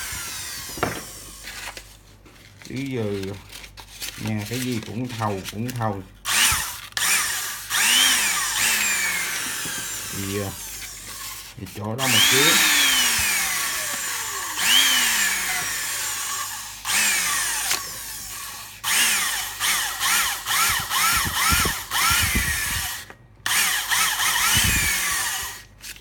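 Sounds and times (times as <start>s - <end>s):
abrasive cloth on drill chuck: 0.0s - 1.5s, 6.2s - 25.7s
electric drill winding up and down: 0.0s - 1.7s, 6.3s - 25.7s.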